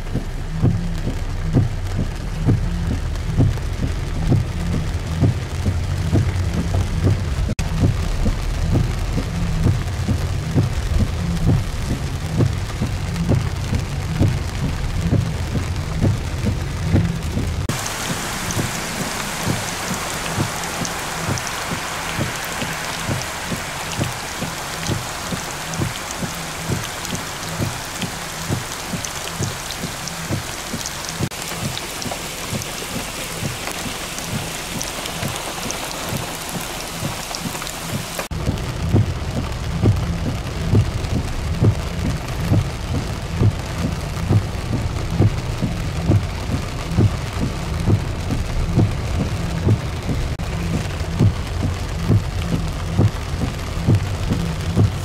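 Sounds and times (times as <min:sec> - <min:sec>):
low rumble: 0:00.0 - 0:31.8, 0:37.2 - 0:55.0
heavy rain pouring: 0:00.0 - 0:55.0.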